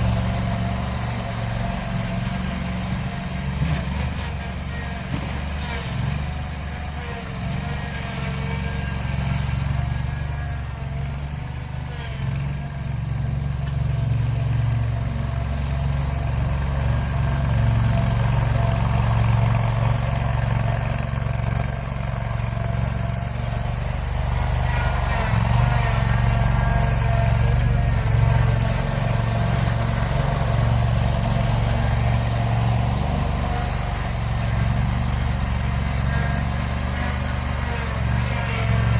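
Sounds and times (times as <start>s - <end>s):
mower engine running: 0.0s - 38.9s.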